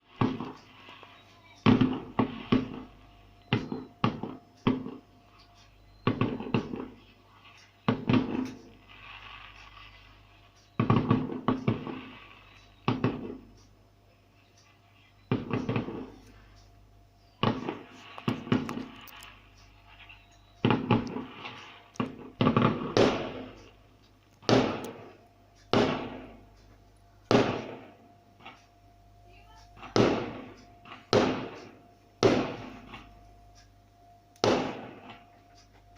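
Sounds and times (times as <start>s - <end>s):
fireworks bangs crackling: 0.0s - 13.7s, 15.3s - 16.6s, 17.4s - 28.7s, 29.4s - 33.7s, 34.4s - 35.7s.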